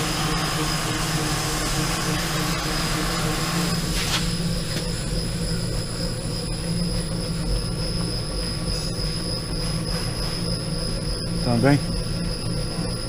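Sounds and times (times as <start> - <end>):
shaker rig mechanical hum: 0.0 - 13.0.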